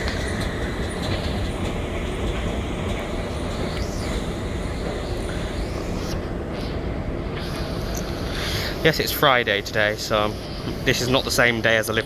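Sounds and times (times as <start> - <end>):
escalator rumbling: 0.0 - 12.0.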